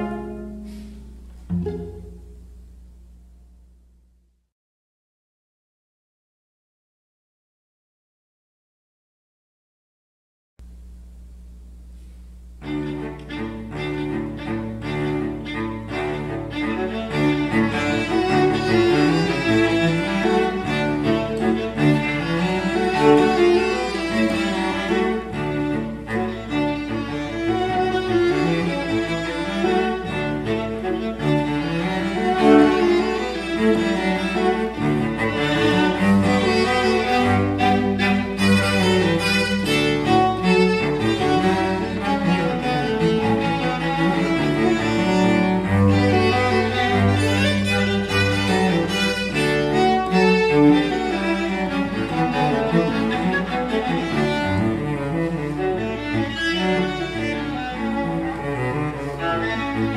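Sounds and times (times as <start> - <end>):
viola and cello playing: 0.0 - 2.9, 12.5 - 59.9.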